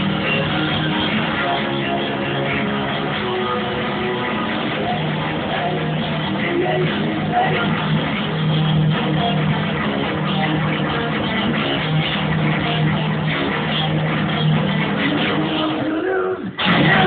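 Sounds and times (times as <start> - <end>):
drums: 0.0 - 17.0
electric guitars strumming: 0.0 - 17.0.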